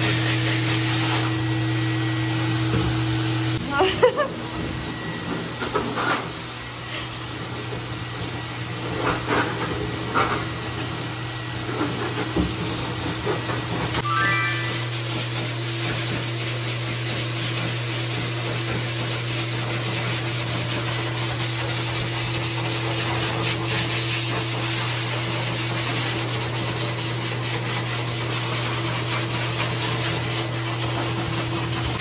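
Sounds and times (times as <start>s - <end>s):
pet blow dryer rushing air: 0.0s - 32.0s.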